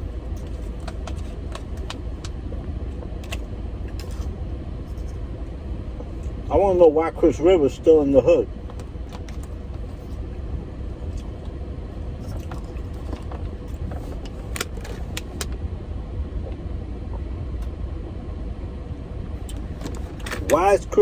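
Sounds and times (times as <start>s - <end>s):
car engine running: 0.0s - 21.0s
faint steady hum: 0.0s - 21.0s.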